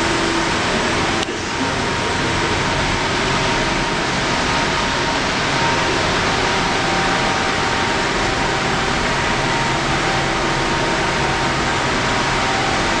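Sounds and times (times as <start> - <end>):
faint steady whine: 0.0 - 13.0
machinery fan-like rush: 0.0 - 13.0.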